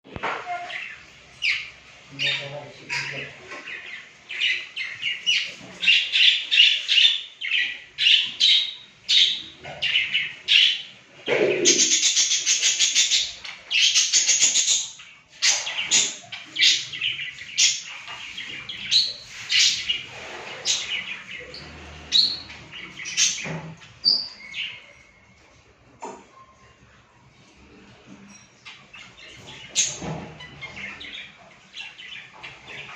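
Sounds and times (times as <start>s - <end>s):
small birds chirping: 0.1s - 25.5s, 26.3s - 32.9s.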